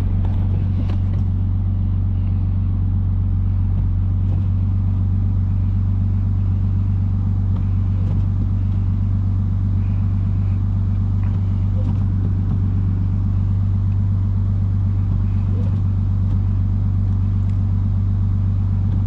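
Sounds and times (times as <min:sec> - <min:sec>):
car engine droning while driving: 0:00.0 - 0:19.0.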